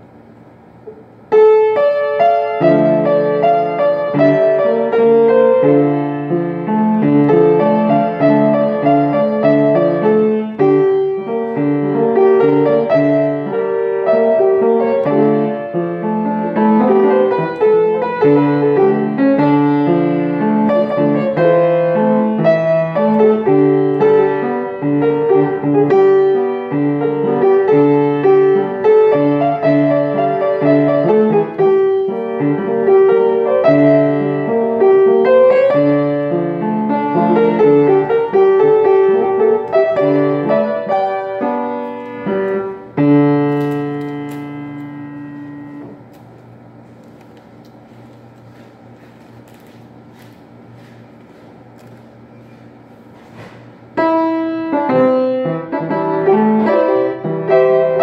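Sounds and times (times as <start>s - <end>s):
piano music: 0.0s - 47.6s, 53.8s - 58.0s.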